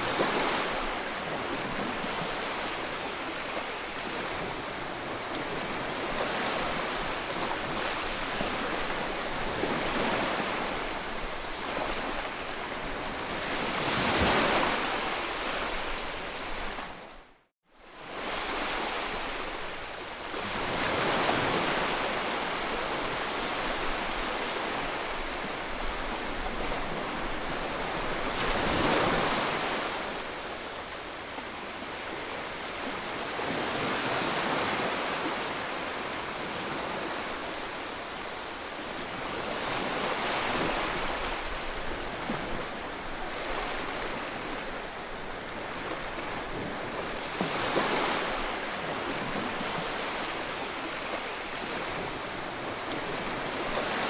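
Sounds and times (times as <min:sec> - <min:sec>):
sea waves breaking: 0:00.0 - 0:17.1, 0:20.3 - 0:54.0.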